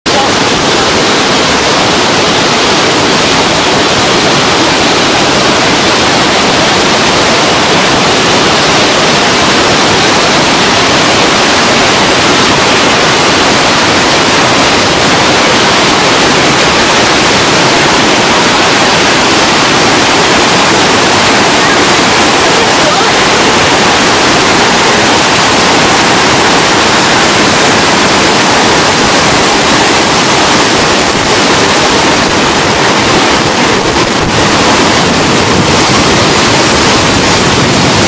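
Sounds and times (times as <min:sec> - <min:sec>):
water rushing over spillway: 0:00.0 - 0:38.0.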